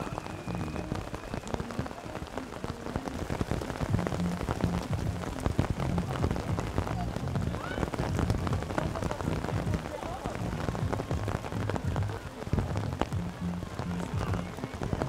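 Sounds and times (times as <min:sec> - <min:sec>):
crackling wind noise on microphone: 0:00.0 - 0:15.0.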